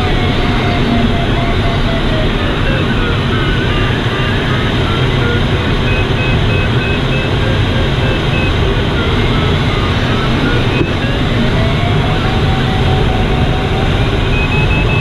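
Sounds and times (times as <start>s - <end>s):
variometer beeping tone: 0.0s - 15.0s.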